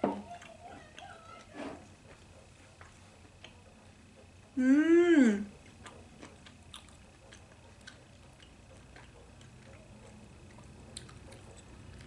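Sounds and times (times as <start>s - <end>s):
person chewing close to microphone: 0.0s - 4.6s, 5.5s - 12.0s.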